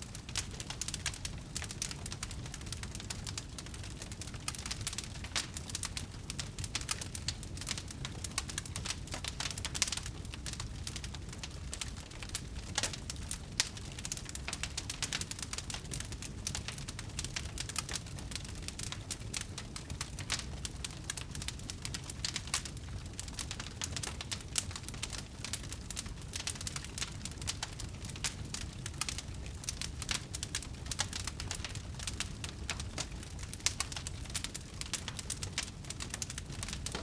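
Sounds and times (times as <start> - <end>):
low rumble of flames: 0.0 - 37.0
wood fire crackling: 0.0 - 37.0.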